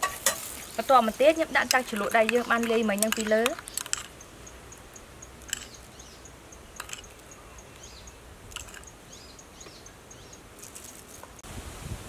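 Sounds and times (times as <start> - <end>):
insect ticking: 0.4 - 11.4.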